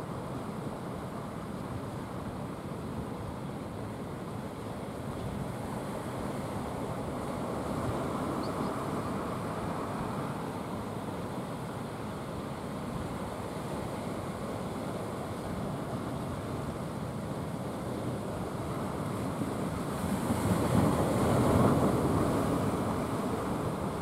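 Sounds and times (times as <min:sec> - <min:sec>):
sea surf washing on beach: 0:00.0 - 0:24.0.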